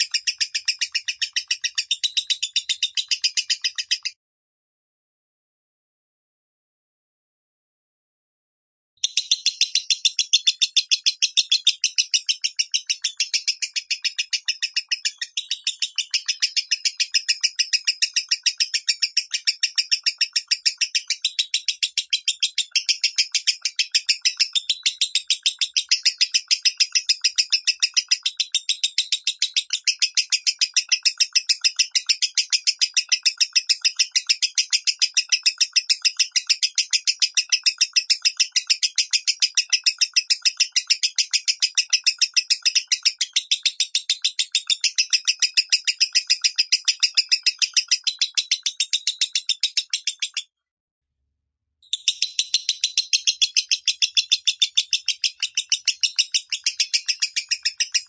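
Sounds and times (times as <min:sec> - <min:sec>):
bird rapid high chirps: 0:00.0 - 0:04.2, 0:09.0 - 0:50.5, 0:51.8 - 0:58.0.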